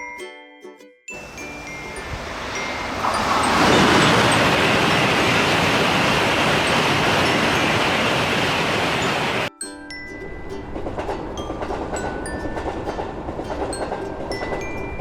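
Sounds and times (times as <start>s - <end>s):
passing train rushing noise: 1.2s - 9.5s, 10.2s - 15.0s.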